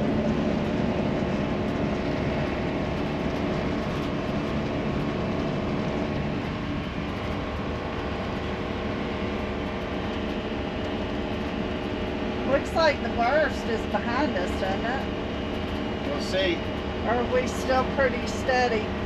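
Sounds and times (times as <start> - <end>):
faint hum: 0.0 - 19.0
road and engine noise: 0.0 - 19.0.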